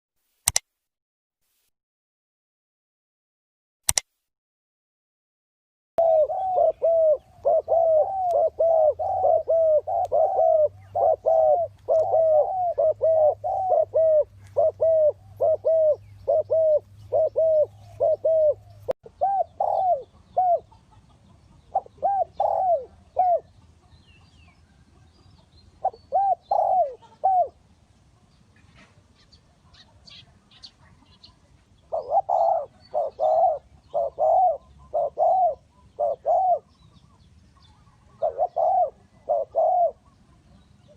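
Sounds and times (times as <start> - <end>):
dove cooing: 6.0 - 27.6, 29.6 - 40.9.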